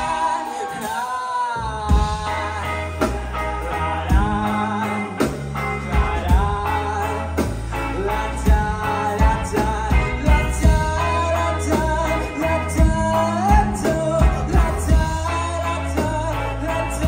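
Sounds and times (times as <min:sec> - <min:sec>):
lead vocal singing: 0:00.0 - 0:17.0
live rock band playing: 0:00.0 - 0:17.0.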